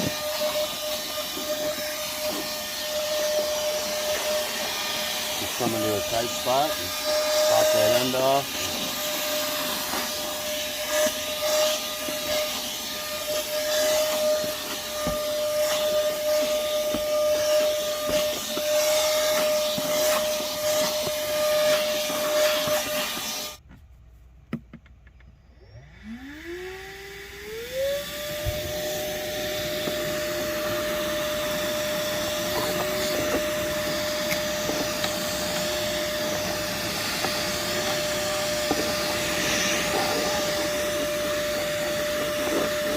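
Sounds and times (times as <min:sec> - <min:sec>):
cordless vacuum whining: 0:00.0 - 0:23.6, 0:25.5 - 0:42.9.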